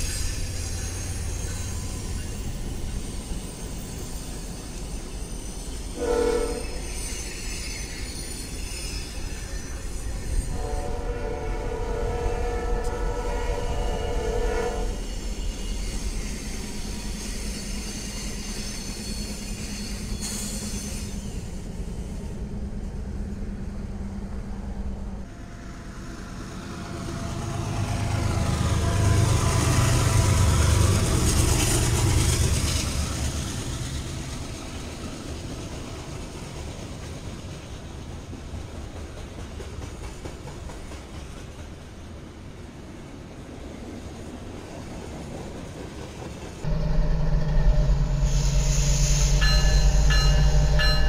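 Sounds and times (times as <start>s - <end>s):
diesel freight train passing: 0.0s - 51.0s.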